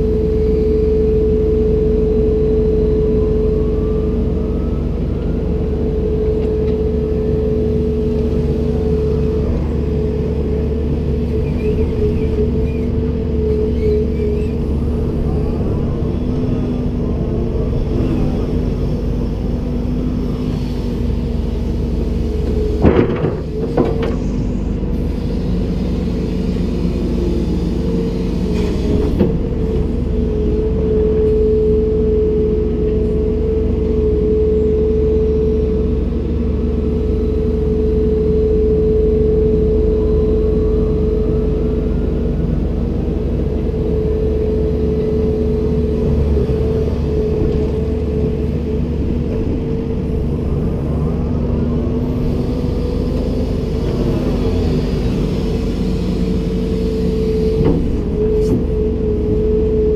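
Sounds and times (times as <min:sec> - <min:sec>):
excavator engine rumbling: 0:00.0 - 0:59.9
hydraulic whine: 0:00.0 - 0:59.9.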